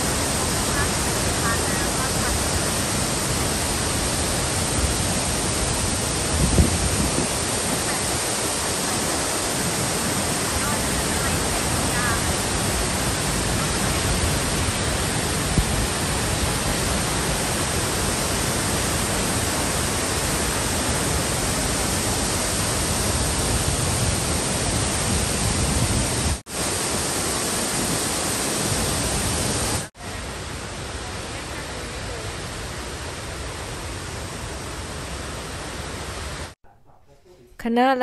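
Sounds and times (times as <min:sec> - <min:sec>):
waterfall rushing: 0:00.0 - 0:36.6.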